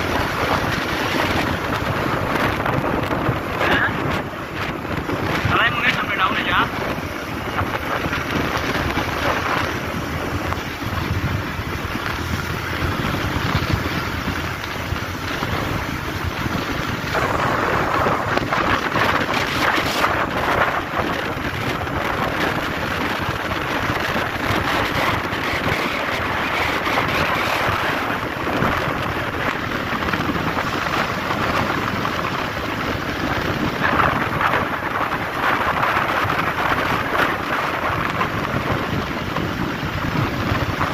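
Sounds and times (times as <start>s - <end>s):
vehicle road noise: 0.0s - 40.9s
wind rushing over microphone: 0.0s - 40.9s.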